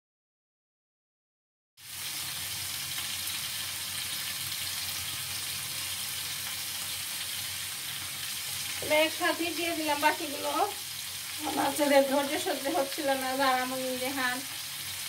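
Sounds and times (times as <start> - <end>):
food sizzling in hot oil: 1.8 - 15.0.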